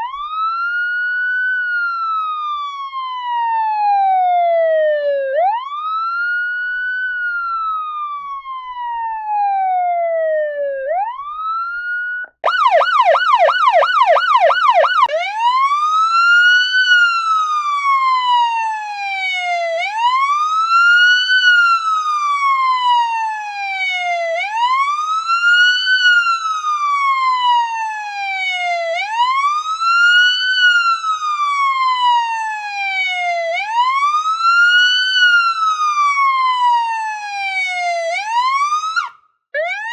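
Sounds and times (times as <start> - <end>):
electronic police siren wailing: 0.0 - 39.9.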